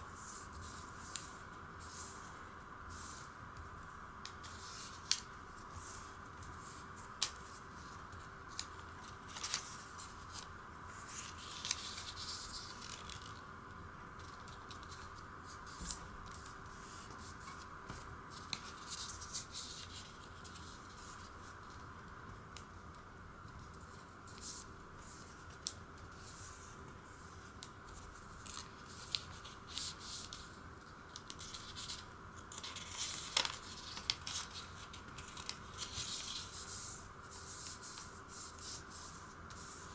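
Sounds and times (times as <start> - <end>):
paper folding rustles: 4.2 - 13.4, 14.2 - 21.9, 23.7 - 39.9.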